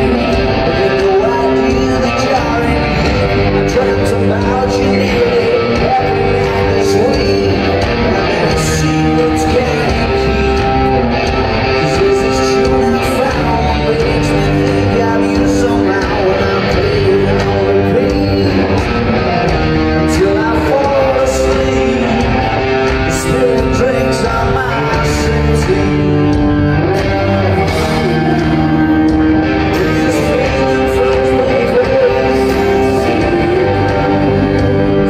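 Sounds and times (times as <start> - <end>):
man singing: 0.0 - 35.0
rock band playing live: 0.0 - 35.0.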